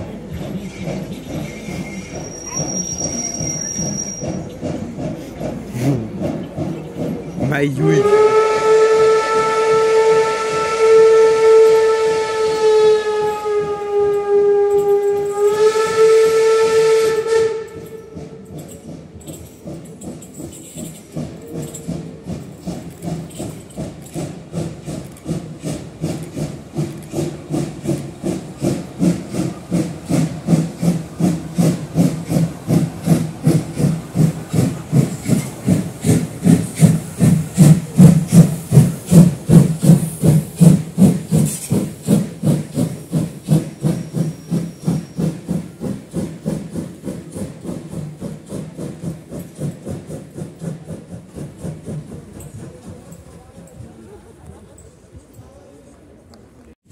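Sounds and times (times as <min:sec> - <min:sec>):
steam locomotive chuffing: 0:00.0 - 0:55.6.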